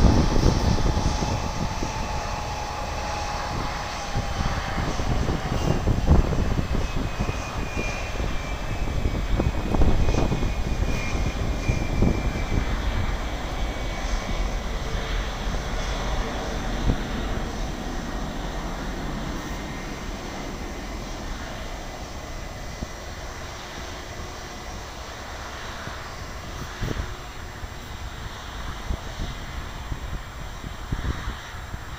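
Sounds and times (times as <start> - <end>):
airliner engines passing: 0.0 - 31.9.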